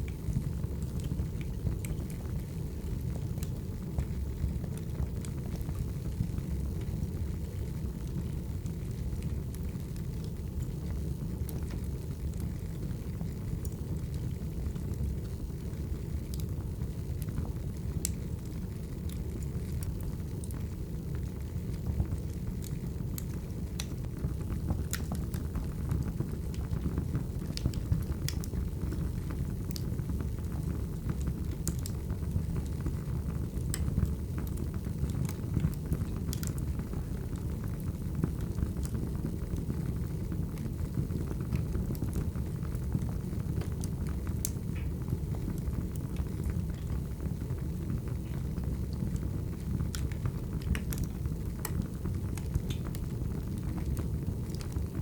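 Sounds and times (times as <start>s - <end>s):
firewood burning with crackles: 0.0s - 55.0s.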